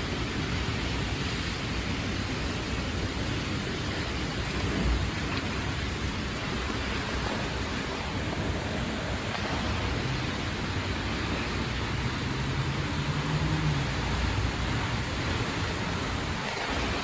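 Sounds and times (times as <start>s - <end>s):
rain: 0.0s - 17.0s
storm wind: 0.0s - 17.0s.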